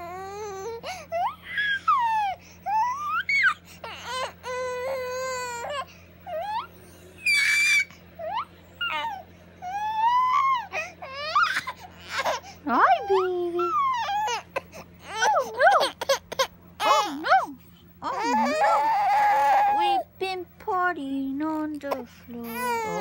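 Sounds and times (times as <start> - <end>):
infant squealing: 0.0 - 17.4, 18.0 - 20.0, 22.4 - 23.0
infant crying: 0.0 - 20.0, 22.4 - 23.0.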